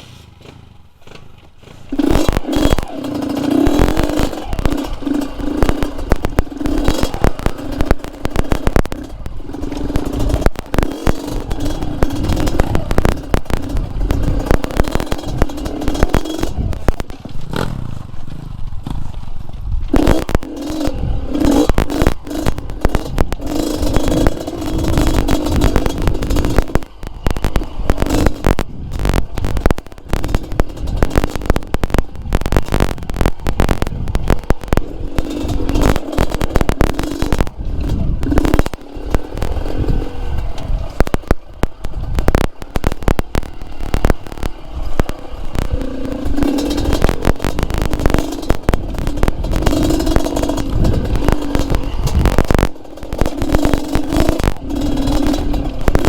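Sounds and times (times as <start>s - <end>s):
two-stroke motorcycle engine: 0.0s - 56.0s.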